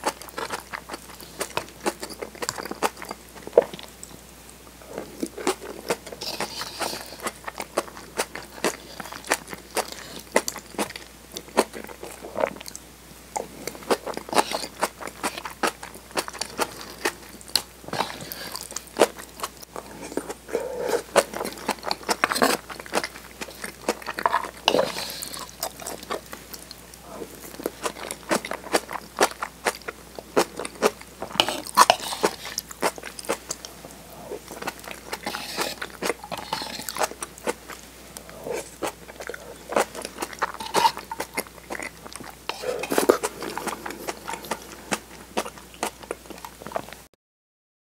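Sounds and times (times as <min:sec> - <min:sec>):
chewing and wet mouth sounds: 0:00.0 - 0:04.2, 0:04.9 - 0:47.1.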